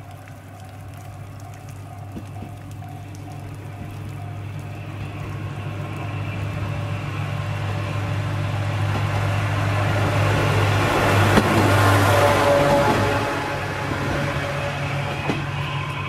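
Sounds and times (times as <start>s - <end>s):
railcar diesel engine humming: 0.0s - 16.0s.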